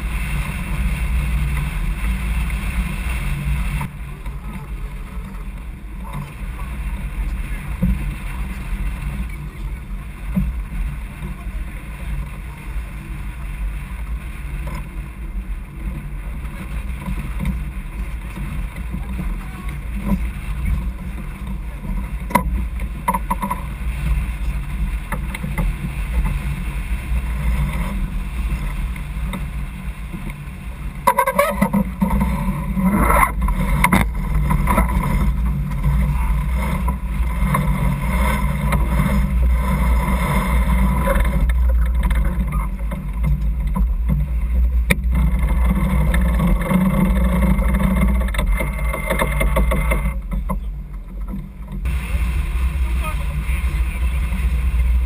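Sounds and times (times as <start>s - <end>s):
water along hull: 0.0s - 55.0s
wind on microphone: 0.0s - 55.0s.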